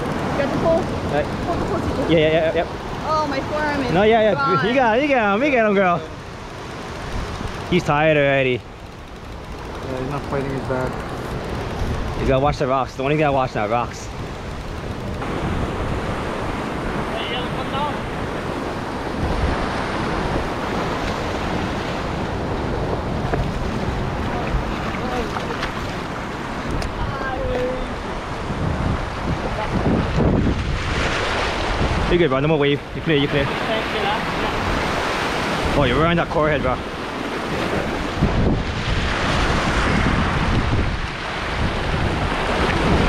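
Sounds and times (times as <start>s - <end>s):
wind buffeting microphone: 0.0s - 5.6s, 6.2s - 43.0s
surf washing over rocks: 0.0s - 43.0s.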